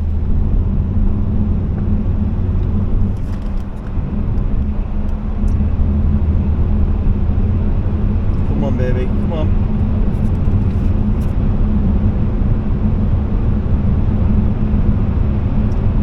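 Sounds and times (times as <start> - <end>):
diesel engine droning: 0.0 - 16.0
road noise inside car: 0.0 - 16.0.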